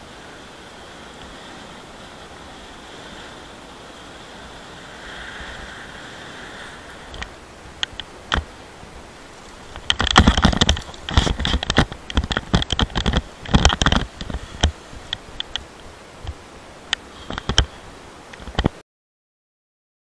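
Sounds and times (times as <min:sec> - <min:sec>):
wind buffeting microphone: 0:00.0 - 0:18.7
paraglider wing crackling: 0:00.0 - 0:18.8.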